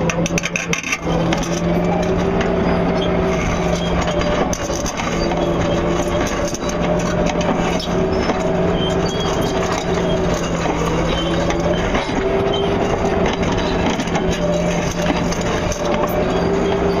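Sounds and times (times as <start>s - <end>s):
excavator diesel engine running: 0.0s - 17.0s
hydraulic whine: 0.0s - 17.0s.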